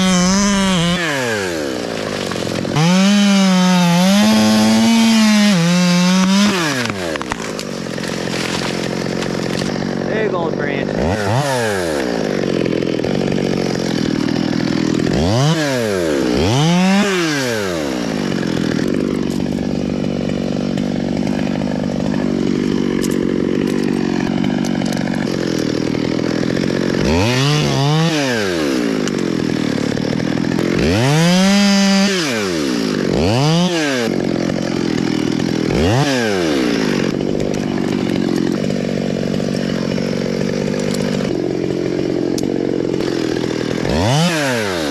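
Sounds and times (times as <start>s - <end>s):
chainsaw idling and revving: 0.0s - 44.9s.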